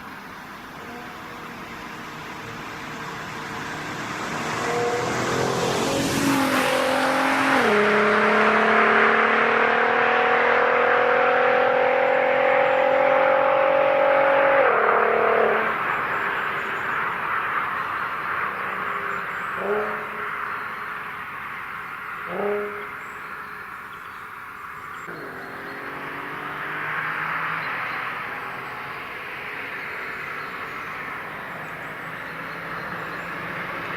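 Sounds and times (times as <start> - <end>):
car engine accelerating hard: 0.0 - 23.6, 24.6 - 33.9.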